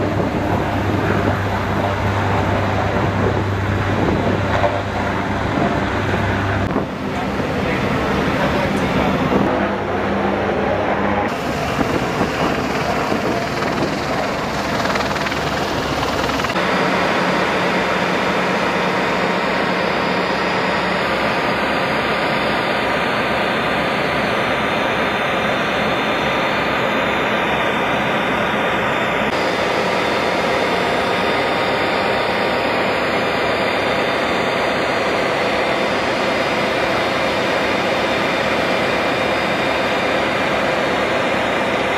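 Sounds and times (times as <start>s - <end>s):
heavy machinery roar: 0.0s - 41.9s.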